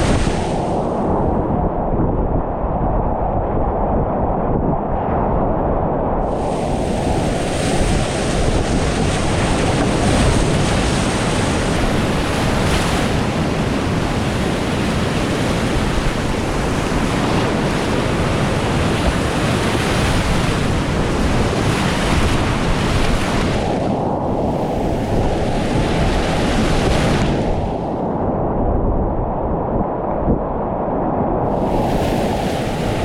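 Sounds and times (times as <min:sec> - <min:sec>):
microphone noise: 0:00.0 - 0:02.8, 0:05.6 - 0:33.0.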